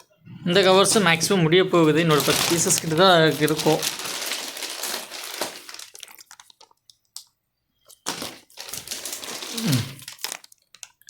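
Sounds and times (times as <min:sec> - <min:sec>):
plastic bags crinkling: 0:00.6 - 0:11.0.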